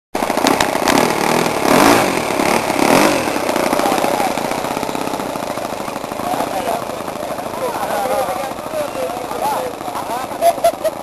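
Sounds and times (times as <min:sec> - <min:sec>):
model plane engine revving: 0:00.2 - 0:10.5.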